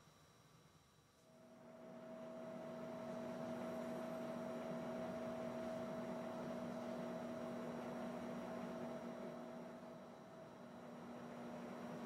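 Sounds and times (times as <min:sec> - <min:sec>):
fan heater humming: 0:01.3 - 0:12.0.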